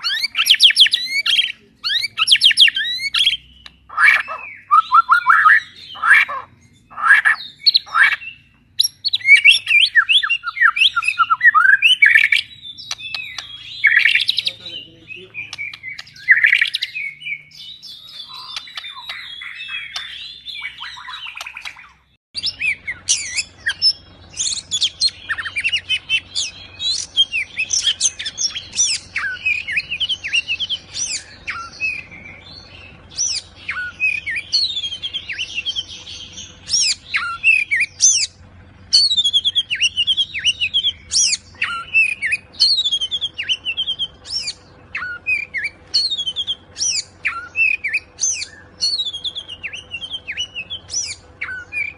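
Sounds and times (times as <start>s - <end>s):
birds singing whistled phrases: 0.0s - 51.9s.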